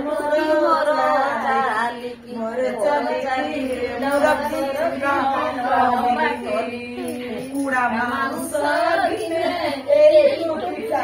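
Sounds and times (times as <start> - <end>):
women singing folk song: 0.0 - 11.0.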